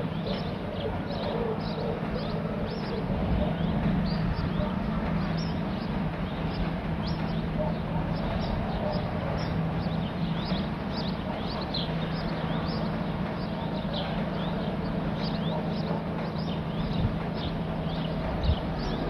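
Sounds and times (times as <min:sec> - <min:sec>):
small birds chirping: 0:00.0 - 0:19.0
steady low drone: 0:00.0 - 0:19.0.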